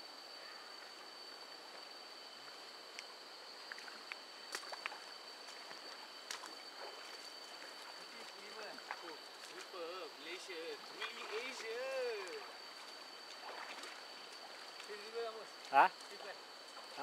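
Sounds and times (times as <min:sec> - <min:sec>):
high-pitched insect drone: 0:00.0 - 0:17.0
river water flowing: 0:00.8 - 0:17.0.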